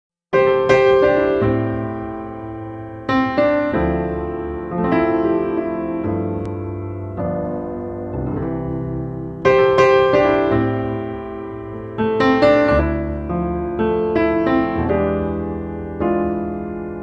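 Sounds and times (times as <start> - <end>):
slow piano chords: 0.4 - 17.0.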